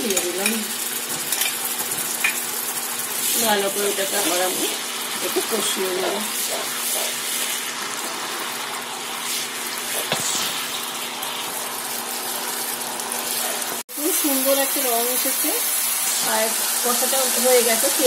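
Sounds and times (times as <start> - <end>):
paste sizzling in hot oil: 0.0 - 18.0.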